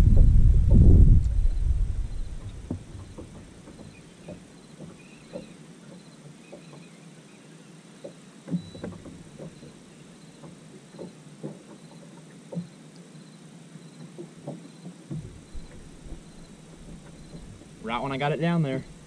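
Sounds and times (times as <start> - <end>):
faint insects chirping: 1.2 - 19.0
small waves lapping against boat hull: 1.2 - 19.0.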